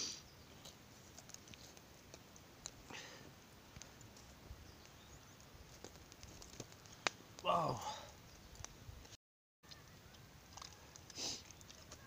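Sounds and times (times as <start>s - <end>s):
campfire clicks: 0.5s - 12.0s.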